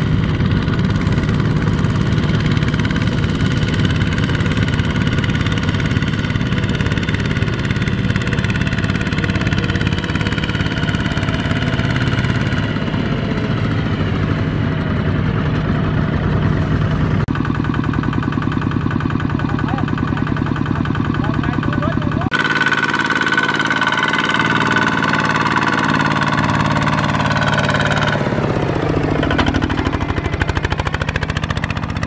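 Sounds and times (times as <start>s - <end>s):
diesel engine firing beats: 0.0s - 32.0s
diesel tractor engine running: 0.0s - 32.0s.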